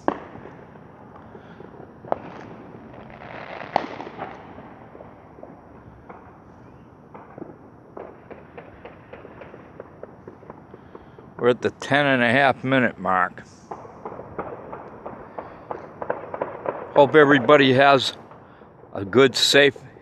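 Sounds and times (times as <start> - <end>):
firecracker crackling: 0.0 - 20.0
fireworks pops and bangs: 0.0 - 20.0.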